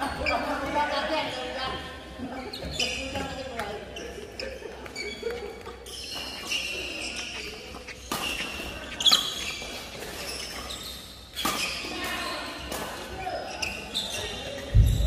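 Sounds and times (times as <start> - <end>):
shoes squeaking on court: 0.0 - 15.0.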